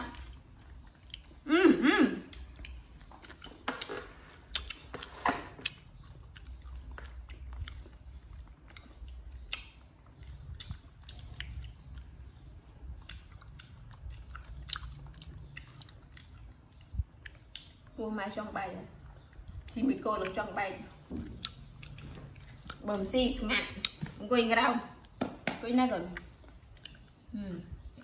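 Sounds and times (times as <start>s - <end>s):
crunchy chewing: 0.1s - 1.5s, 2.2s - 18.0s, 18.9s - 25.2s, 26.0s - 28.0s.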